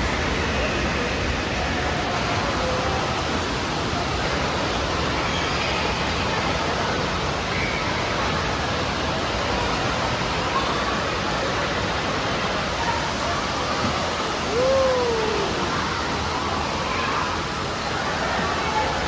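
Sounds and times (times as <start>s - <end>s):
splashing falling water: 0.0s - 19.0s.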